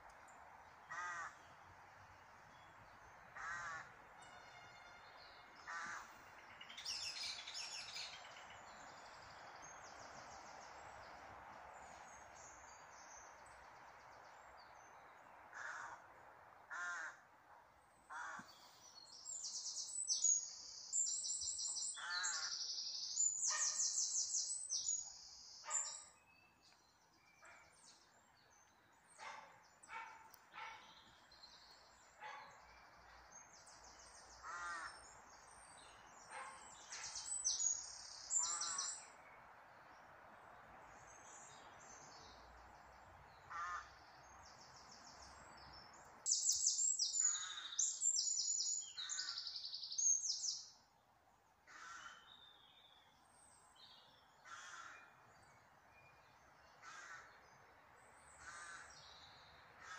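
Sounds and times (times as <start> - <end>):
birds singing trilled songs: 2.3 - 15.8, 17.8 - 51.0, 51.8 - 59.9.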